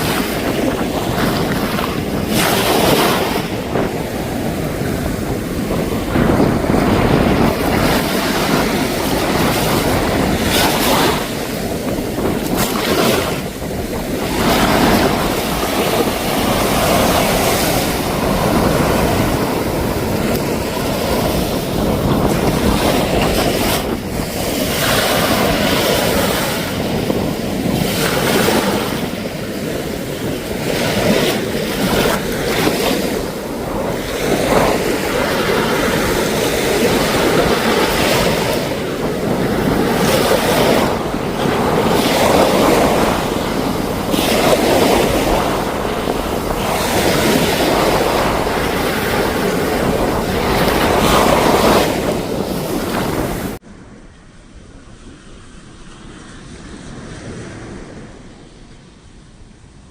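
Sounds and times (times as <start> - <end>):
sea waves washing on shore: 0.0 - 59.9
wind buffeting microphone: 0.0 - 59.9.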